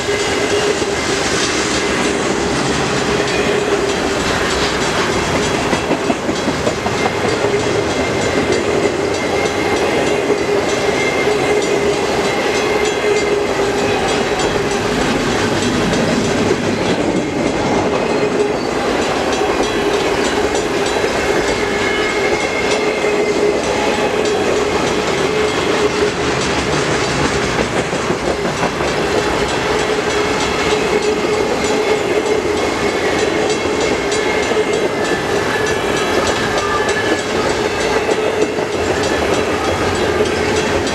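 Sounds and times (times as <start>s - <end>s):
ringing tone from wheels: 0.0s - 27.4s, 28.4s - 40.9s
train wheels clattering on rails: 0.0s - 40.9s.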